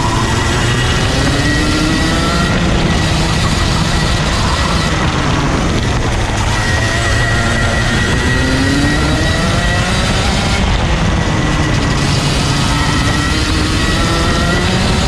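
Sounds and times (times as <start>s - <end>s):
kart engine running: 0.0s - 15.0s
wind rush on camera: 0.0s - 15.0s.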